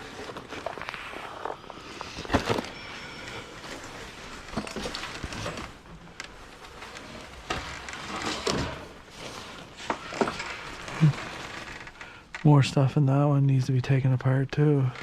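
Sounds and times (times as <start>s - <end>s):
rustling: 0.0s - 12.5s.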